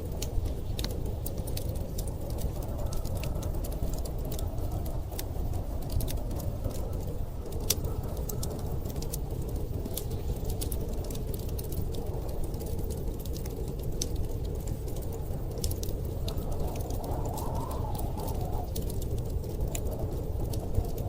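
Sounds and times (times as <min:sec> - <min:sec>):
storm wind rumbling: 0:00.0 - 0:21.0
wood fire crackling: 0:00.0 - 0:21.0.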